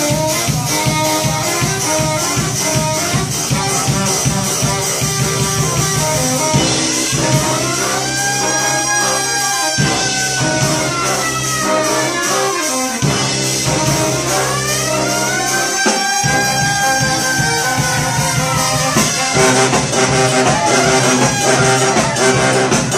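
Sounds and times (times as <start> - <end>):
brass band playing: 0.0 - 22.9
long held horn notes: 0.0 - 22.9.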